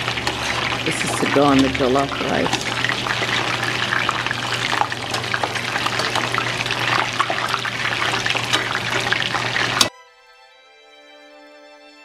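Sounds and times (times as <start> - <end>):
chicken sizzling in hot oil: 0.0 - 9.9.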